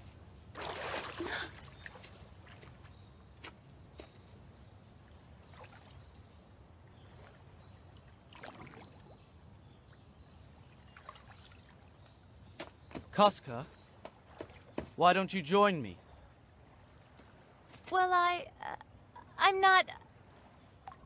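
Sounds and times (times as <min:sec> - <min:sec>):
water trickling and splashing: 0:00.0 - 0:18.8, 0:20.0 - 0:21.0.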